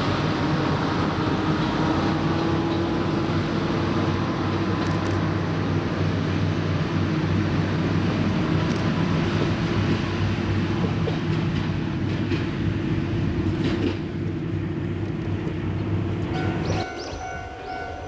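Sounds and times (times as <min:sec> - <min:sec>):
diesel railcar engine humming: 0:00.0 - 0:18.0.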